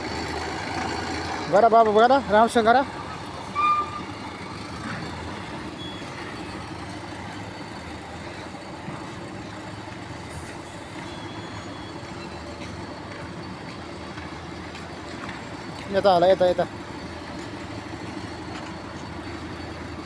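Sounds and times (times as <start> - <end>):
heavy engine running with low drone: 0.0 - 20.0.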